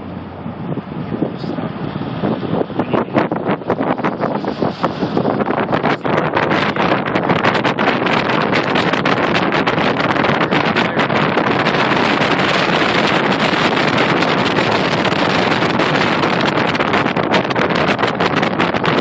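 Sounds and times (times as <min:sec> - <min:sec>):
wind and road noise in vehicle: 0:00.0 - 0:19.0.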